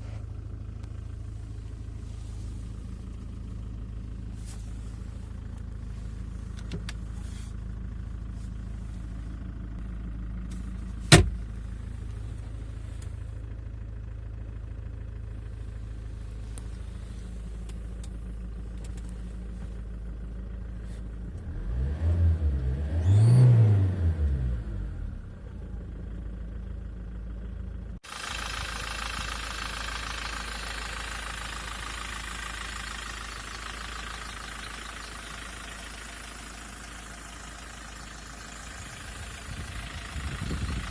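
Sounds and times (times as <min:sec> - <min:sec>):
diesel engine idling and revving: 0:00.0 - 0:40.9.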